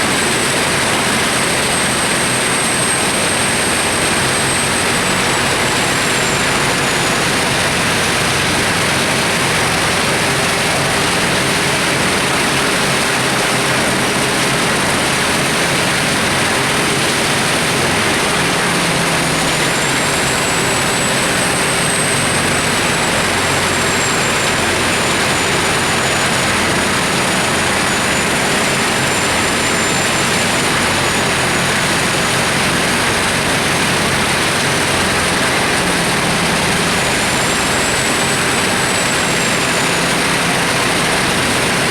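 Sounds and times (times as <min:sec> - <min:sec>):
wood chipper running: 0:00.0 - 0:41.9.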